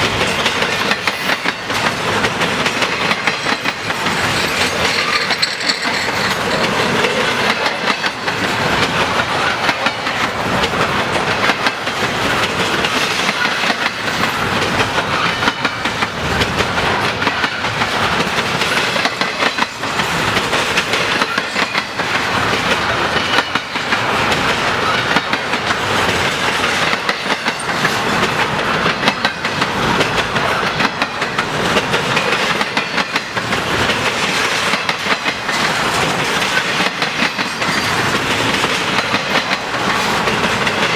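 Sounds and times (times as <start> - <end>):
steel wheels rumbling on rail: 0.0 - 40.9
wheels clacking over rail joints: 0.0 - 40.9.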